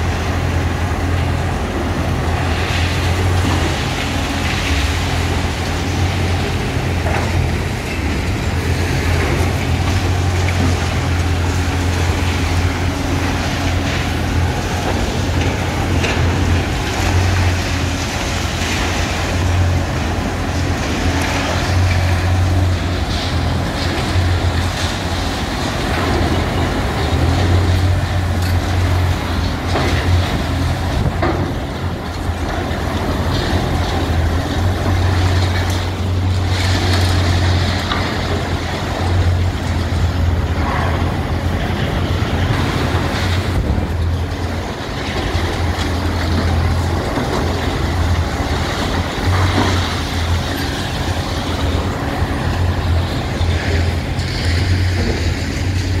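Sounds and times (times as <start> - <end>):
excavator diesel engine drone: 0.0 - 56.0.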